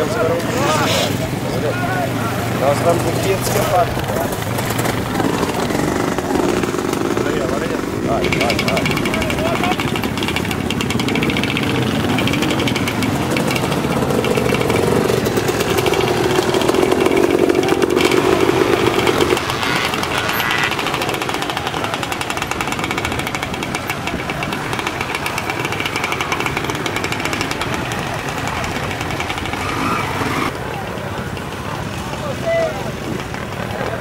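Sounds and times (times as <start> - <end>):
vehicle engine revving: 0.0 - 30.6
steady rough rumble: 0.0 - 32.2.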